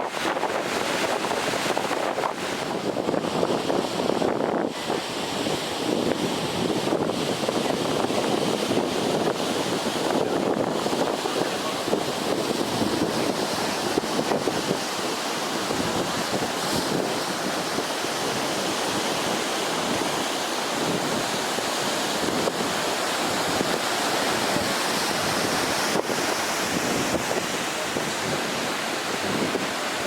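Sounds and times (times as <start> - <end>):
ocean surf: 0.0 - 30.0
wind noise on microphone: 0.0 - 30.0.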